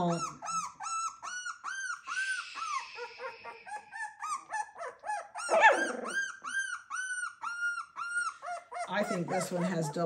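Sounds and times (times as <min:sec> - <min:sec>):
lower puppy cry: 0:00.0 - 0:10.0
puppies whimpering: 0:00.0 - 0:10.0.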